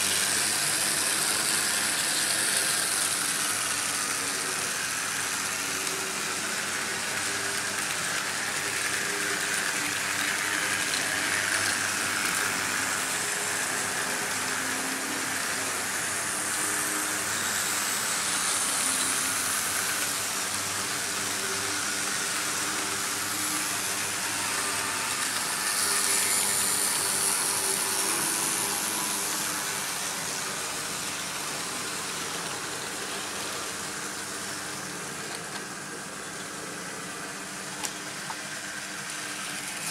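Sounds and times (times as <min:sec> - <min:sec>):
model train wheels rattling on rails: 0:00.0 - 0:36.6.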